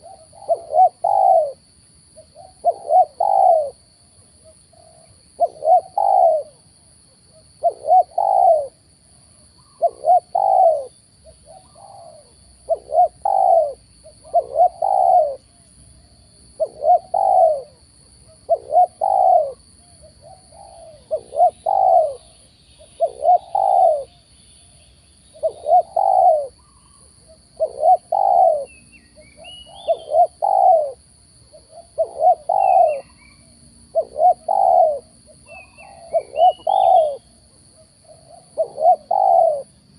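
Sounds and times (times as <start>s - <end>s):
doves cooing: 0.0s - 1.6s, 2.2s - 3.8s, 4.4s - 6.6s, 7.6s - 8.8s, 9.6s - 15.6s, 16.6s - 24.2s, 25.4s - 39.8s.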